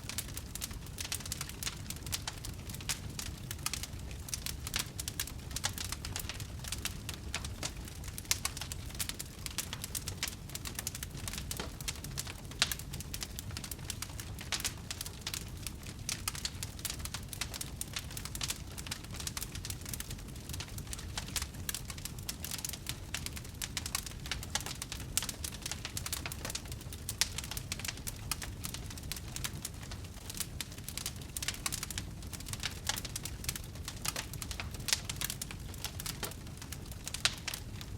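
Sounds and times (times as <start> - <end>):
flame rumble: 0.0 - 37.9
wood fire crackling: 0.0 - 37.9.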